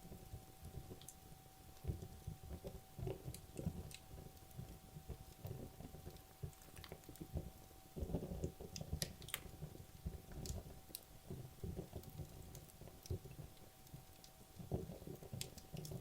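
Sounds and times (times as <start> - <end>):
burning wood crackling and popping: 0.0 - 16.0.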